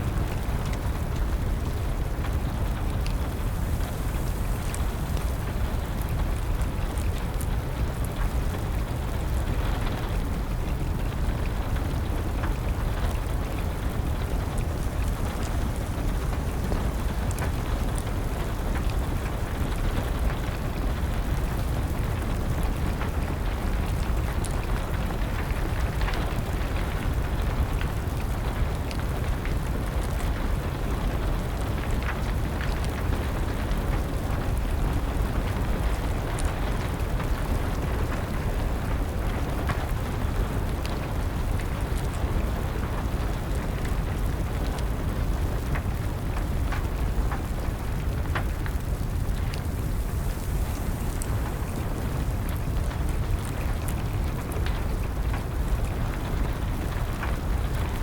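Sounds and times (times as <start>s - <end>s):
steady rain: 0.0s - 58.0s
wood fire crackling: 0.0s - 58.0s.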